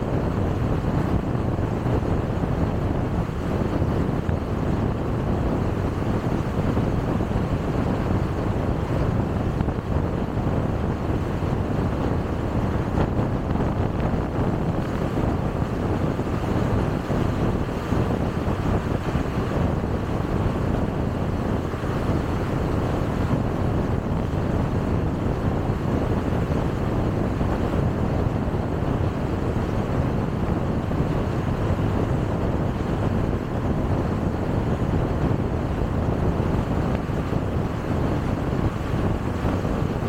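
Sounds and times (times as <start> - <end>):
tyre and wind noise of driving car: 0.0 - 40.0.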